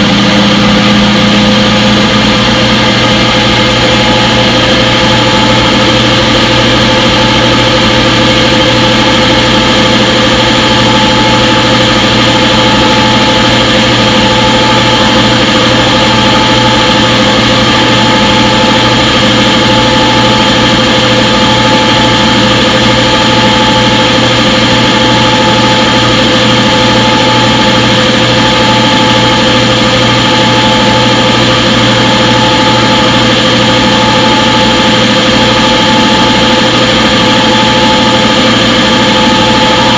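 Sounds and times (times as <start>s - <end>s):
washing machine whirring: 0.0s - 39.9s.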